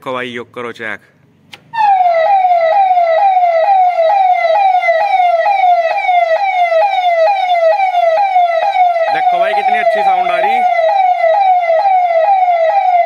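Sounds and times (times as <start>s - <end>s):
electronic siren horn: 1.7s - 13.0s.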